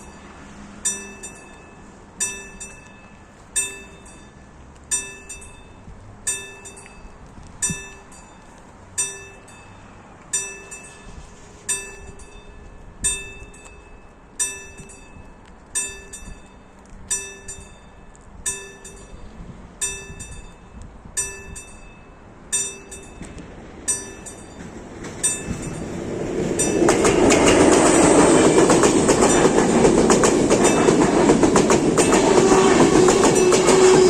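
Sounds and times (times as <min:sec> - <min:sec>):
level crossing bell striking: 0:00.0 - 0:27.3.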